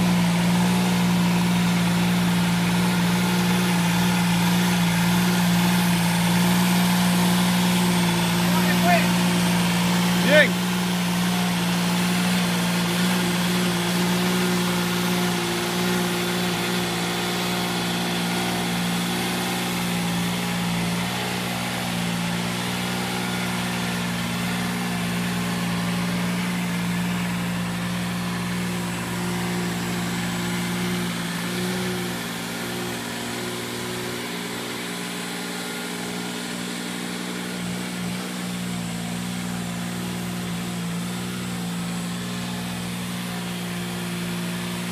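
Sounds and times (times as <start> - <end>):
small tractor engine running: 0.0 - 44.9.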